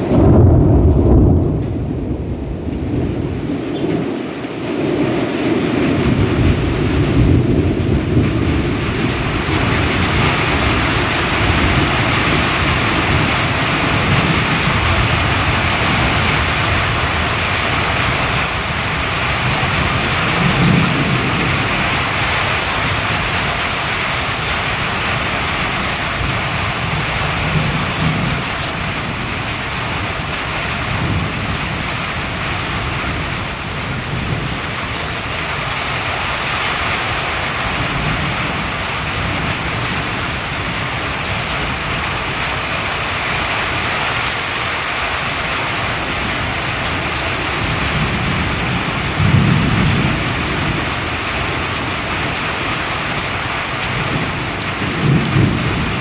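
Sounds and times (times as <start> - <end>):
rolling thunder: 0.0 - 36.1, 36.7 - 56.0
heavy rain: 0.0 - 56.0.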